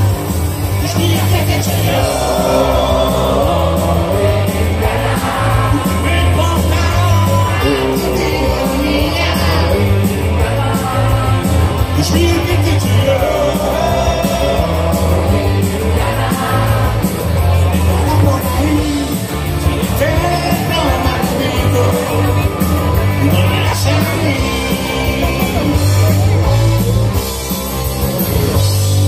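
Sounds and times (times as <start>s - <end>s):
bass and drum beat: 0.0s - 29.0s
live rock band playing: 0.0s - 29.0s
person singing: 0.8s - 27.0s.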